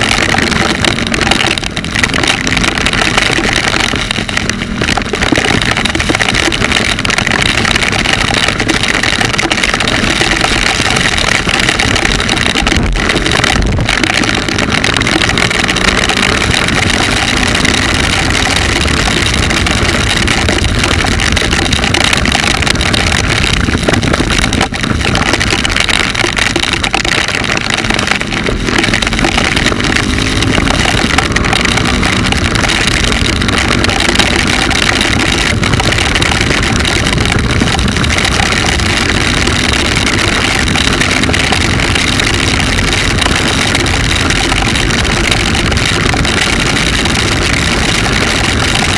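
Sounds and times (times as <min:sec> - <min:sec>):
motorcycle engine accelerating: 0:00.0 - 0:48.9
wind noise on microphone: 0:00.0 - 0:48.9.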